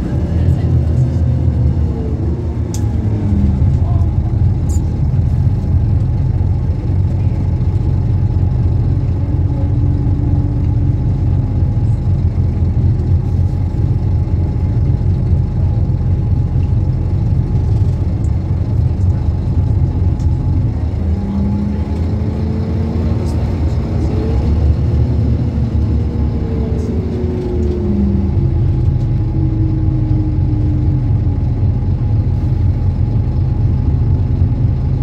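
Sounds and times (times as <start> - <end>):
bus diesel engine droning: 0.0 - 35.0.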